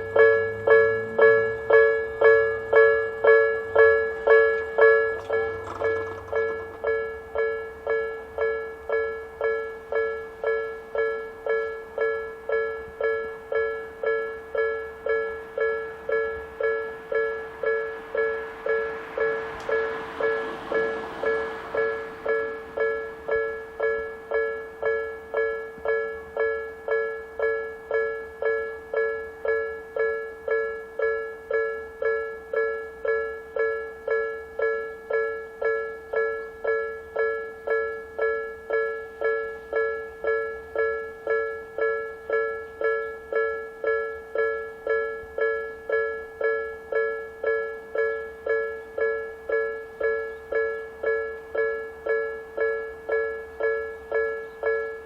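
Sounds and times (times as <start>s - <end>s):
level crossing electronic bell: 0.0s - 55.0s.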